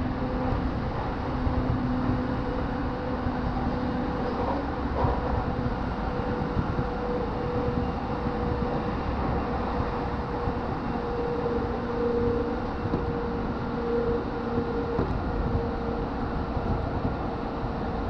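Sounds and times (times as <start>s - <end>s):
train hum: 0.0s - 18.0s
train wheels rumbling on rails: 0.0s - 18.0s.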